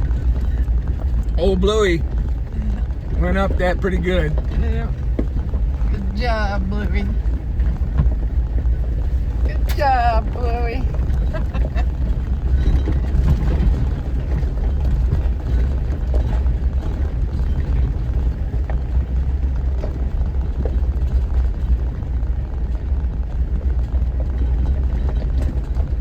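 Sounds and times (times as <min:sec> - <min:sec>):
engine and drivetrain rumble: 0:00.0 - 0:26.0.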